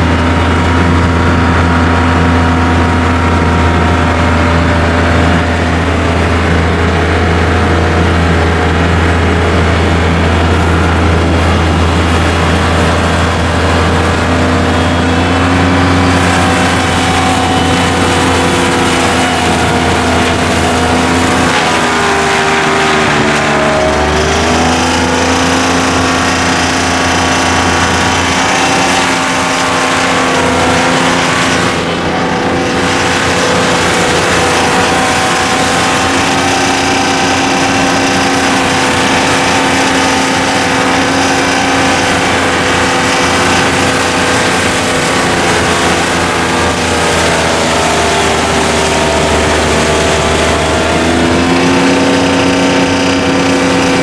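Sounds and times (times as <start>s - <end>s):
diesel engine running loud: 0.0s - 54.0s.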